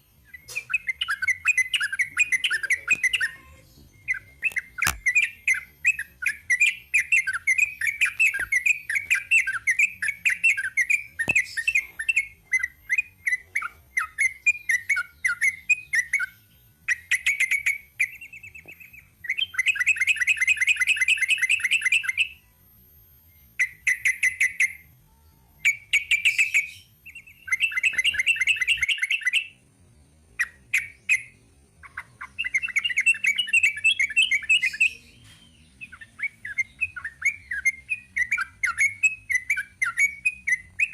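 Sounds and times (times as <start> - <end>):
bulbul singing trills: 0.0 - 22.5, 23.3 - 24.9, 25.6 - 29.7, 30.4 - 40.9.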